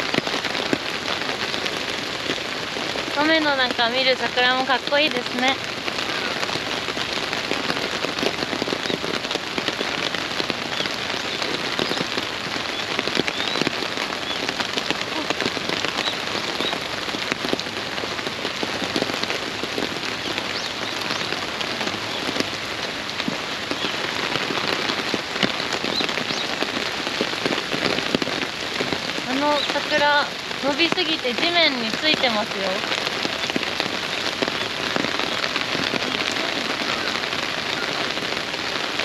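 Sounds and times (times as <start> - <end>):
sharp raindrop hits: 0.0 - 39.0
steady rain: 0.0 - 39.0.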